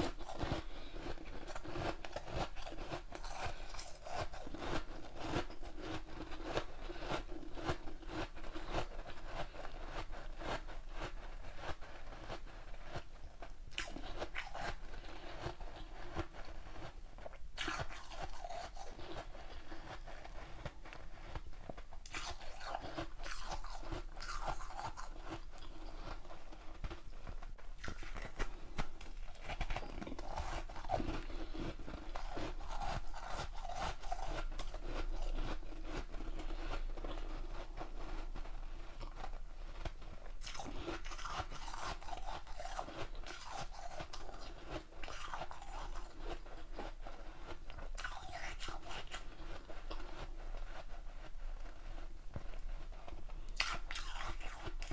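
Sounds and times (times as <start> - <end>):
person chewing ice: 0.0 - 54.9.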